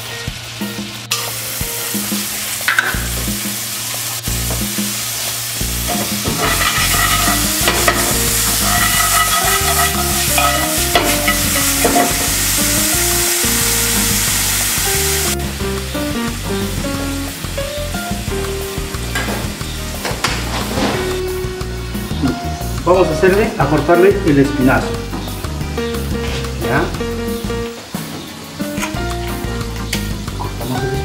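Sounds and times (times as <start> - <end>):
background music: 0.0 - 31.0
seafood sizzling in oil: 0.0 - 31.0.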